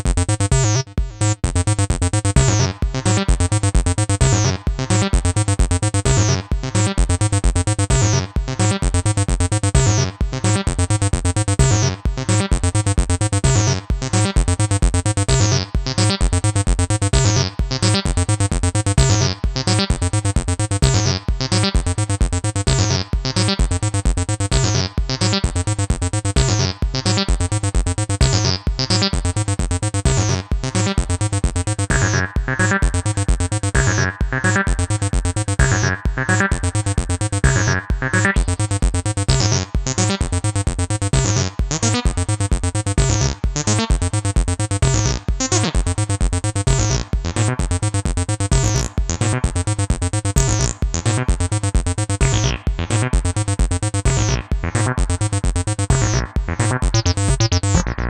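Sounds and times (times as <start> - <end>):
acid electronic music: 0.0 - 58.0.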